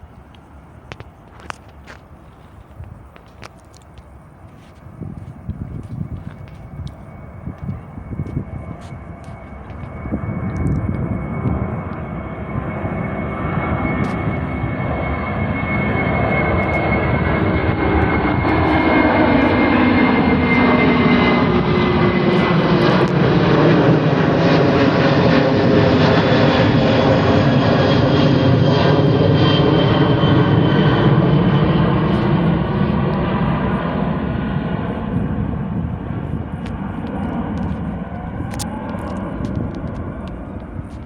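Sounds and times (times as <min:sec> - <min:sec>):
high jet whine falling in pitch: 0:00.0 - 0:41.0
jet engine roar: 0:00.0 - 0:41.0.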